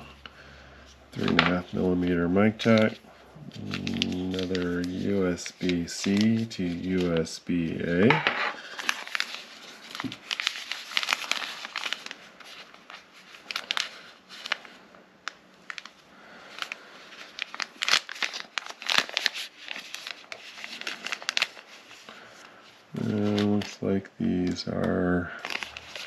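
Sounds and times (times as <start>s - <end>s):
packaging crinkling and tearing: 1.2s - 26.0s.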